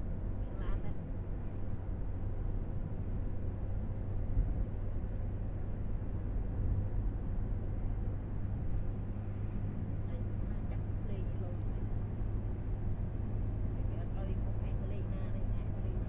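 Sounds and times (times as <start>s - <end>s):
vehicle road noise rumble: 0.0s - 16.0s.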